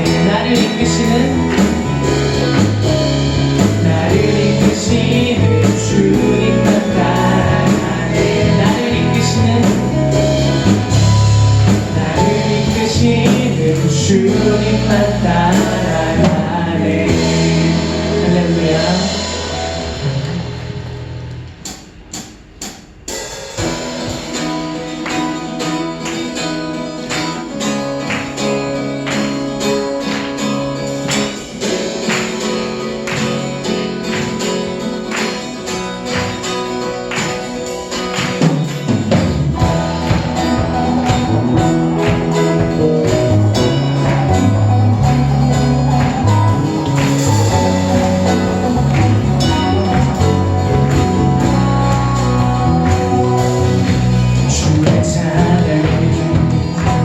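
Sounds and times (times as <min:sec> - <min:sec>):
guitar strumming: 0:00.0 - 0:21.8, 0:23.6 - 0:57.0
bass guitar: 0:00.0 - 0:22.2, 0:23.6 - 0:57.0
percussion: 0:00.0 - 0:57.0.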